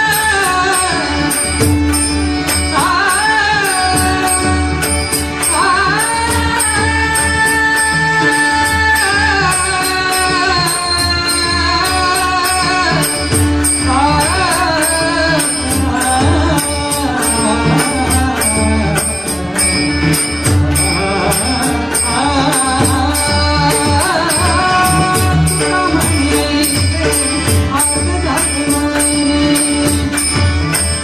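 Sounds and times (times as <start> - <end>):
man singing devotional song: 0.0 - 31.0.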